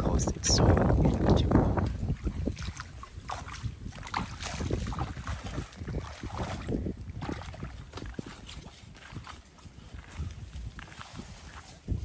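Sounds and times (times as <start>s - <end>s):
bare feet splashing in water: 0.7s - 12.0s.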